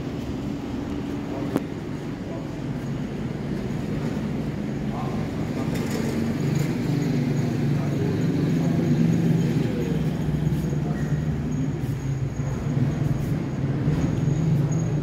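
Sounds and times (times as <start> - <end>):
low train rumble: 0.0 - 15.0.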